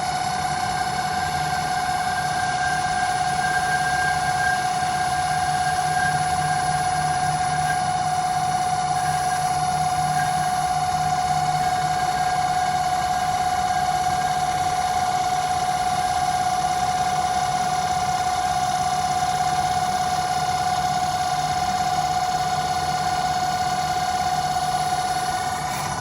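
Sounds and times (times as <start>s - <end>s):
lathe whine: 0.0s - 26.0s.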